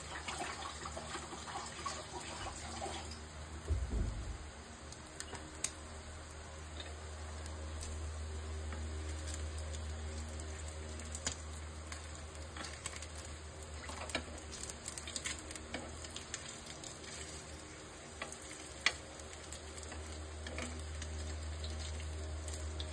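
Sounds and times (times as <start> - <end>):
eggs and meat sizzling: 0.0 - 22.9
steady low hum: 3.2 - 22.9.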